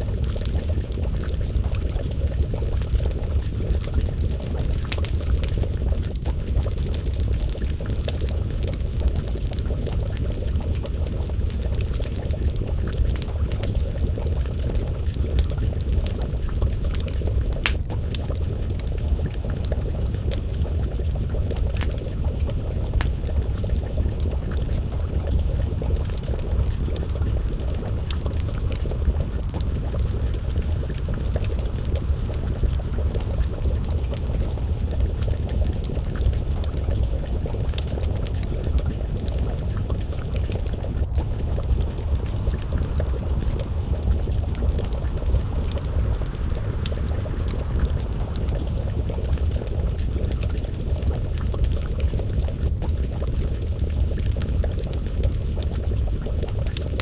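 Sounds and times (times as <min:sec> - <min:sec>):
stew bubbling in a pot: 0:00.0 - 0:57.0
wood fire crackling: 0:00.0 - 0:57.0.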